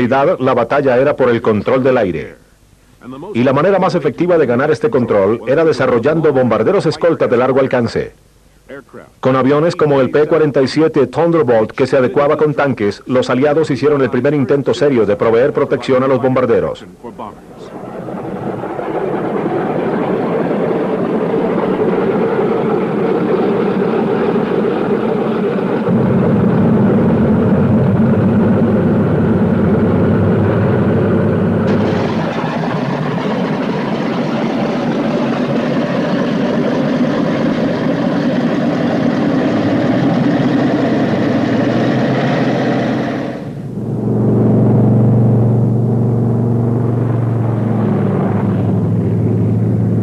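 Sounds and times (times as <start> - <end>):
propeller aircraft engines droning: 0.0 - 50.0.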